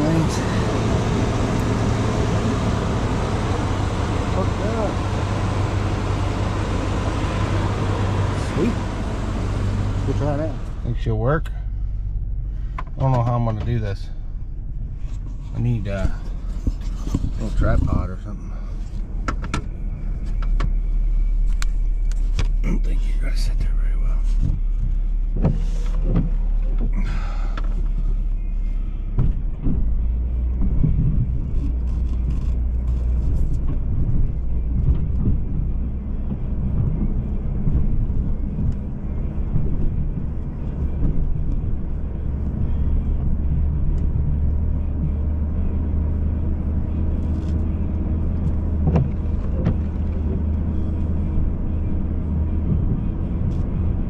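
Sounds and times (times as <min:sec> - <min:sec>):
pickup truck engine running: 0:00.0 - 0:54.0.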